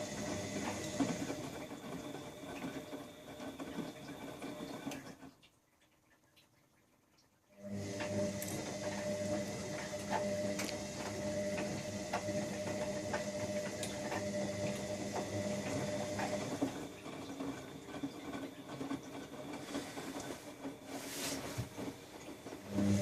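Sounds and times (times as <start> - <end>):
washing machine running: 0.0 - 5.7, 7.5 - 23.0.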